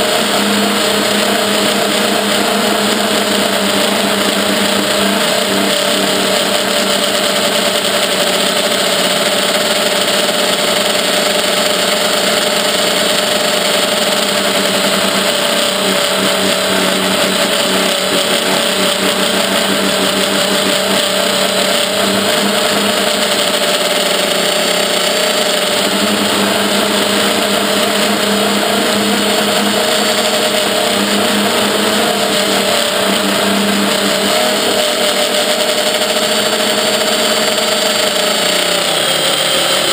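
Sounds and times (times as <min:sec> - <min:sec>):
quadcopter motors buzzing: 0:00.0 - 0:39.9.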